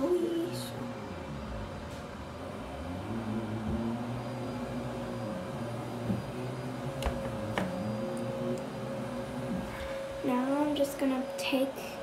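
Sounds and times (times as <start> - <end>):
constant tone: 0.0 - 12.0
machine hum: 0.0 - 12.0.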